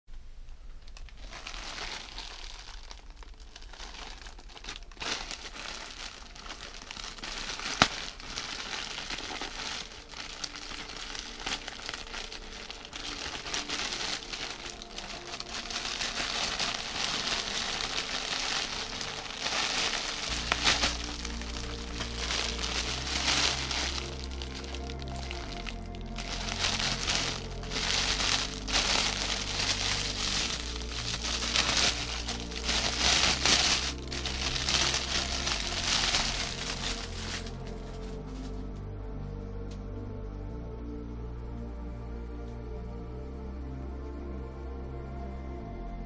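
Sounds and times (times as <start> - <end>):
plastic bags crinkling: 0.6 - 38.6.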